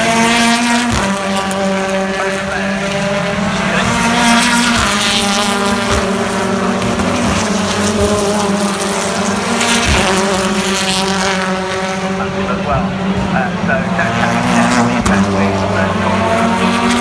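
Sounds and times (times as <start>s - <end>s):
race cars high-revving engines: 0.0s - 17.0s.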